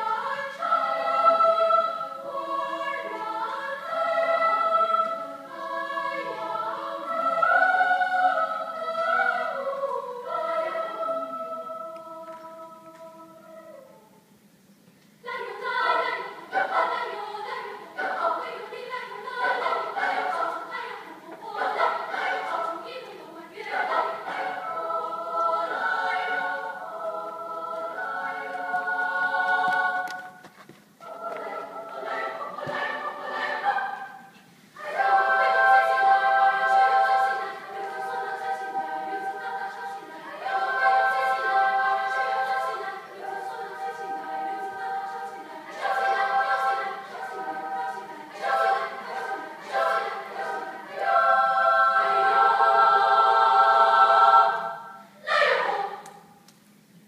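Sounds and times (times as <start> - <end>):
choir singing: 0.0 - 14.2, 15.2 - 56.4.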